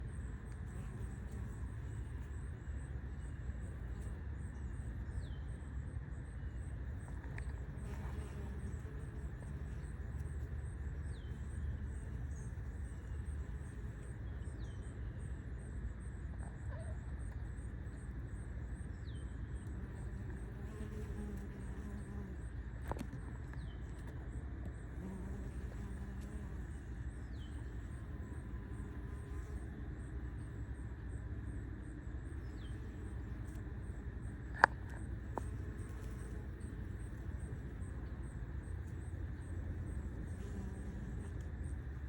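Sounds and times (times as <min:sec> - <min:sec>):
insect chirping: 0:00.0 - 0:23.0, 0:24.7 - 0:42.0.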